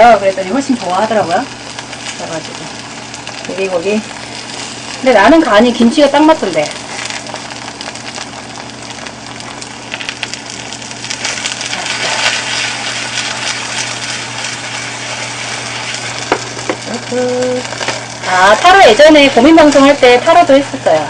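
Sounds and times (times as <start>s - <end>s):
food sizzling in hot pan: 0.0s - 21.0s.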